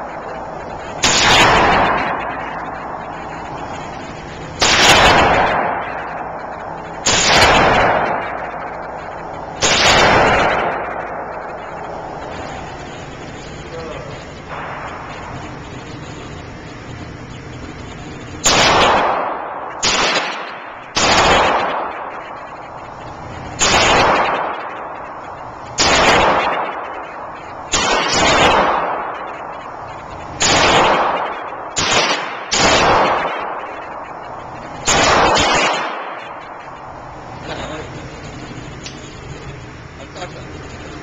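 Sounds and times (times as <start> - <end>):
pistol shots indoors: 0.0 - 13.6, 14.4 - 16.8, 17.6 - 37.4.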